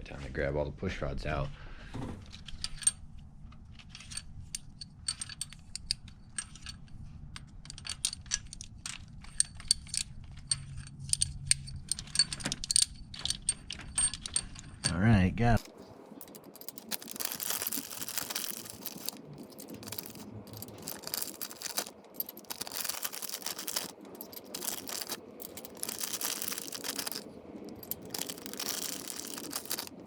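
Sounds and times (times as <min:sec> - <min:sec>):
metal parts rattling and clinking: 0:02.2 - 0:15.0, 0:15.6 - 0:30.0.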